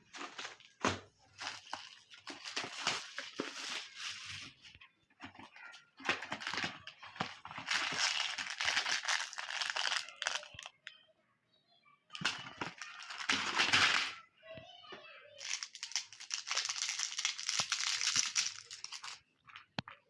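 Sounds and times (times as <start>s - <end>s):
plastic wrappers crinkling: 0.0s - 10.9s, 12.2s - 14.2s, 15.4s - 19.8s.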